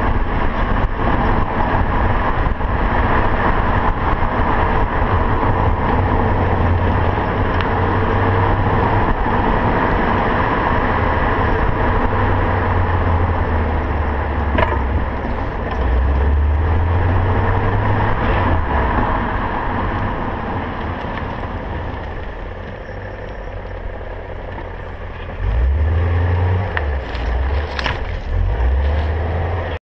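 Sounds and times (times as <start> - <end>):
car engine driving slowly: 0.0 - 29.8
road noise: 0.0 - 29.8.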